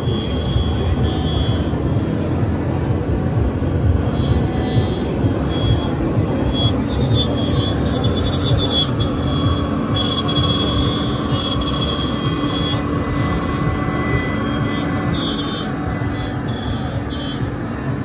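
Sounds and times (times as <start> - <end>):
constant mechanical hum: 0.0 - 18.0
high cutting tone: 0.0 - 18.0.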